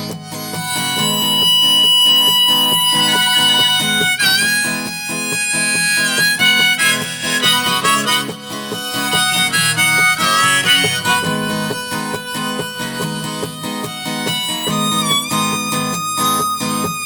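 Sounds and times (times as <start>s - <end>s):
guitar accompaniment: 0.0s - 17.0s
harmonica melody: 0.0s - 17.0s.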